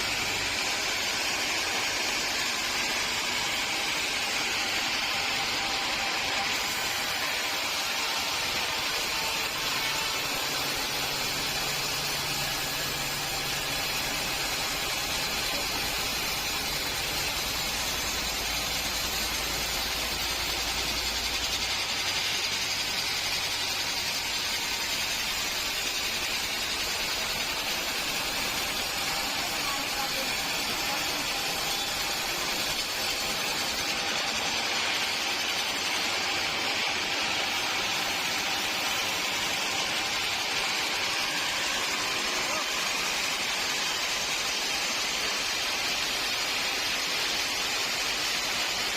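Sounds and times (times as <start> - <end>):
machinery hiss-like din: 0.0 - 48.9.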